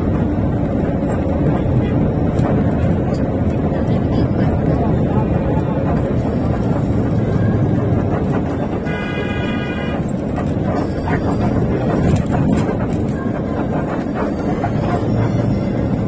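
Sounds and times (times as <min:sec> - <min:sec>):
vehicle interior running noise: 0:00.0 - 0:16.0.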